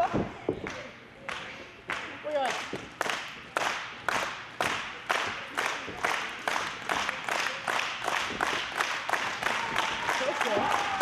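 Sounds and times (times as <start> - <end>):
crowd clapping in unison: 1.3 - 11.0.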